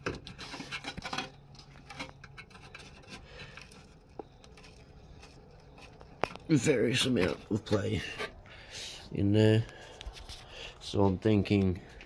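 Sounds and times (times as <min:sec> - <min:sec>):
hands rubbing and scraping parts: 0:00.0 - 0:08.5, 0:09.5 - 0:12.0.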